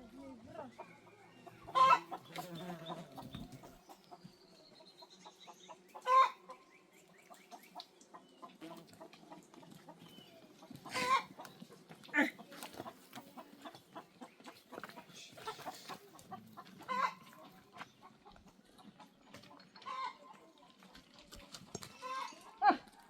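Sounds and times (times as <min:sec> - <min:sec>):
farm animals calling: 0:00.6 - 0:04.2, 0:04.9 - 0:20.6, 0:21.8 - 0:22.8.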